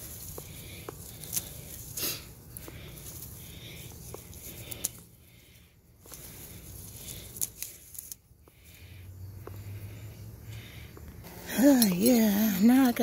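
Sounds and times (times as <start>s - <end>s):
herb stems and leaves rustling: 0.0s - 13.0s.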